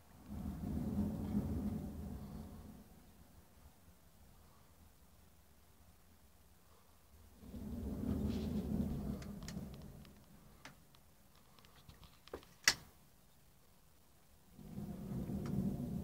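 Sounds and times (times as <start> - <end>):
steam venting rumble: 0.0 - 16.0.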